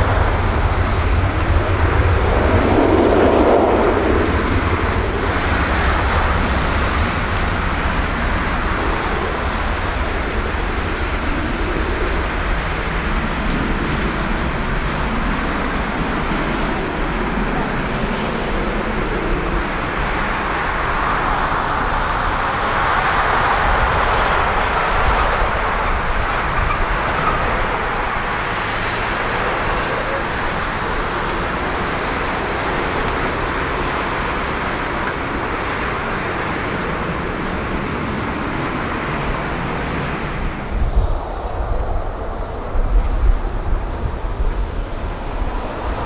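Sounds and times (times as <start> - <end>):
jet engines idling: 0.0 - 46.0.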